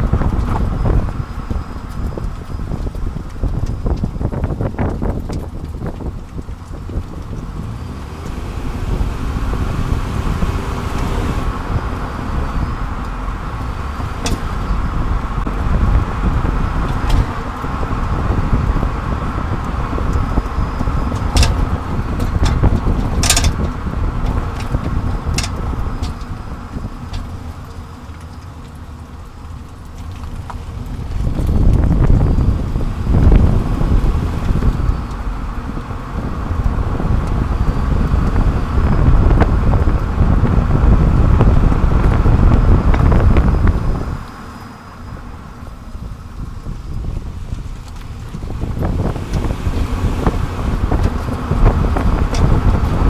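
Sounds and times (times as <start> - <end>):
road tyre and wind noise: 0.0 - 53.0.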